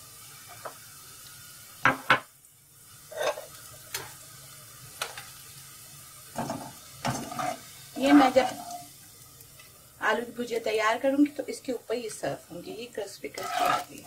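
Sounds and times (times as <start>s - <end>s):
hot oil sizzling in a wok: 0.0s - 14.0s.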